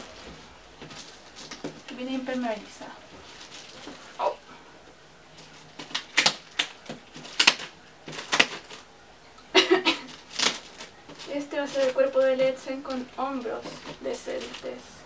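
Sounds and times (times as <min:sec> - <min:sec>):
plastic wrapping crackling: 0:00.0 - 0:09.0, 0:09.6 - 0:15.0.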